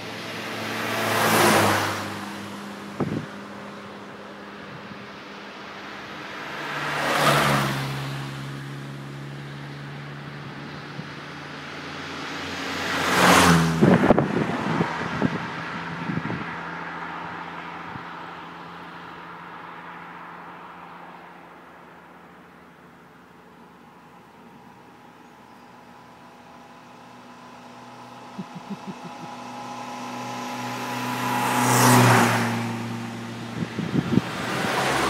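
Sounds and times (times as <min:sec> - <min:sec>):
cars driving past: 0:00.0 - 0:35.0.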